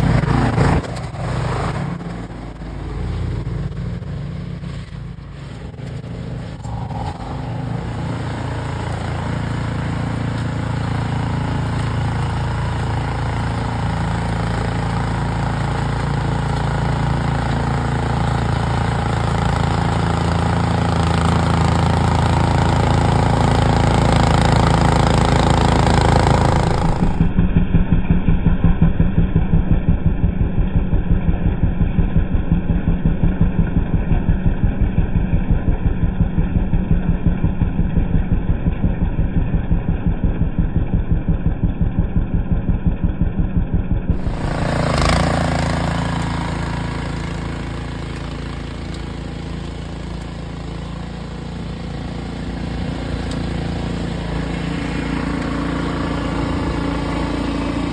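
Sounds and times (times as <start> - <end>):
snow blower engine pulsing: 0.0 - 57.9
snow blower running: 0.0 - 57.9.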